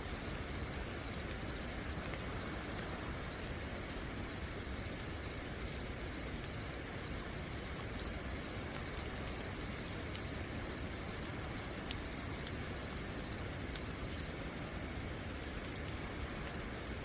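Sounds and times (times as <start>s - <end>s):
cricket chirping: 0.0s - 17.0s
steady rain: 0.0s - 17.0s.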